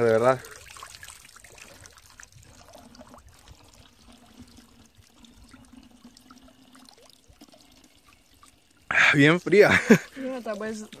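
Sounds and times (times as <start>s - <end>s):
running water trickling: 0.0s - 11.0s.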